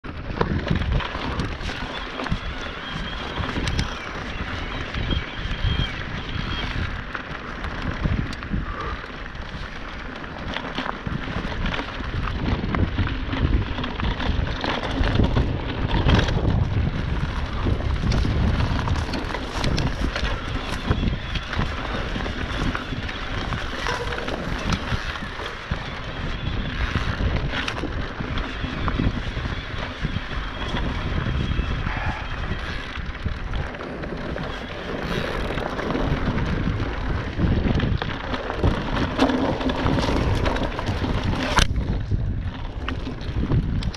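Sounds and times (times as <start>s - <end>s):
tyres rumbling on dirt trail: 0.0s - 43.9s
wind rush on microphone: 0.0s - 43.9s
bike knocks and rattles: 6.2s - 43.9s.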